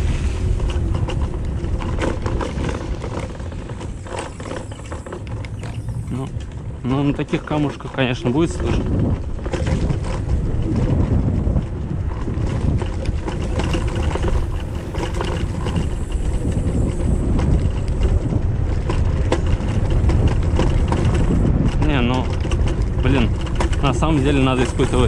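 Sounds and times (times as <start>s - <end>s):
scooter tyre rumble on gravel: 0.0s - 25.0s
frame rattling and clicking: 0.6s - 11.5s, 12.1s - 25.0s.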